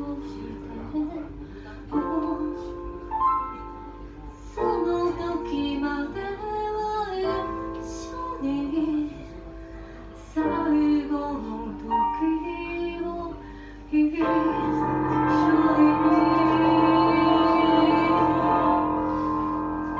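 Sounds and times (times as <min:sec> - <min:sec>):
woman singing: 0:00.0 - 0:03.0, 0:04.4 - 0:09.6, 0:10.2 - 0:19.9
instrumental backing music: 0:00.0 - 0:19.9.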